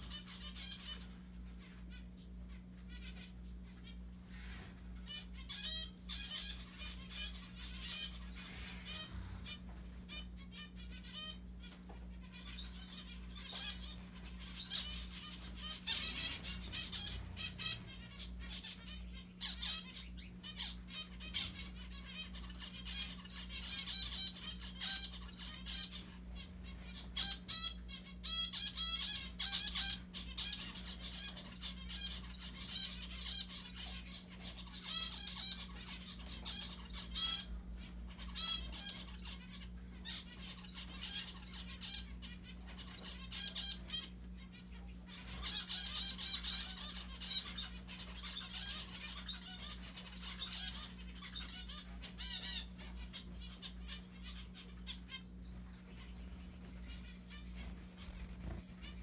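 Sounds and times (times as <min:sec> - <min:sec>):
faint low hum: 0:00.0 - 0:59.0
finches chirping: 0:00.0 - 0:59.0.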